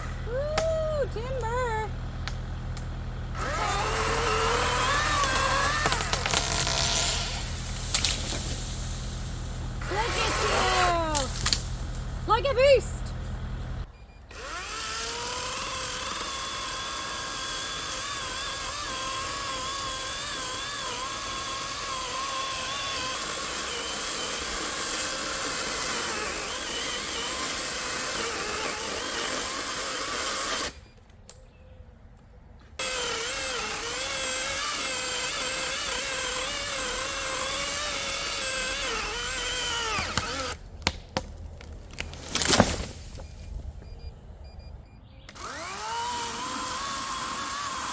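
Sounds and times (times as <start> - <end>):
chainsaw cutting wood: 0.0 - 12.8, 14.3 - 30.9, 32.8 - 43.5, 45.3 - 47.9.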